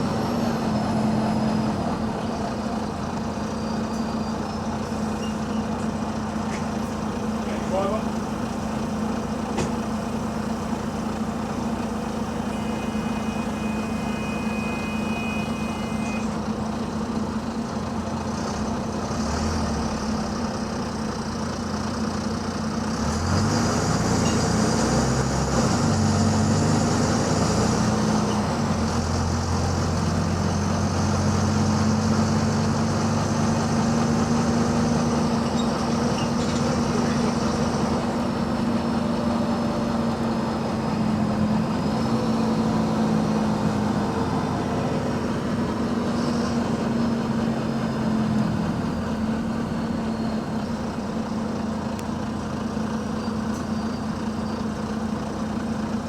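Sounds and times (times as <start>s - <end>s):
bus engine with exhaust leak: 0.0s - 56.0s.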